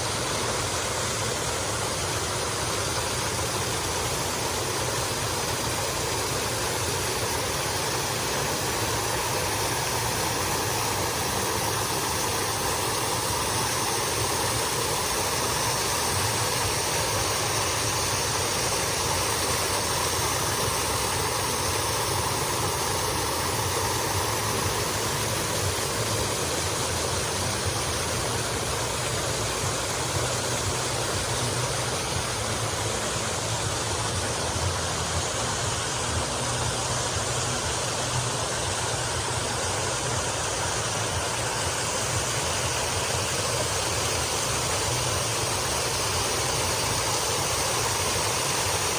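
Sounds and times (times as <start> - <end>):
waterfall pouring into pool: 0.0 - 48.9.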